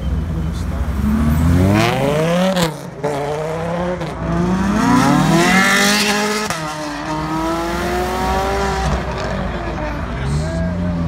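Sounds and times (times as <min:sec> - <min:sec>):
car engine accelerating: 0:00.5 - 0:11.0.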